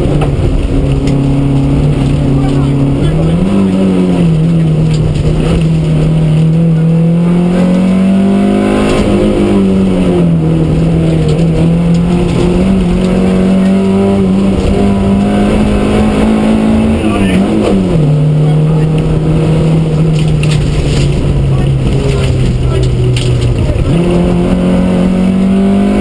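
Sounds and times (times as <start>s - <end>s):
rally car engine running hard: 0.0s - 26.0s.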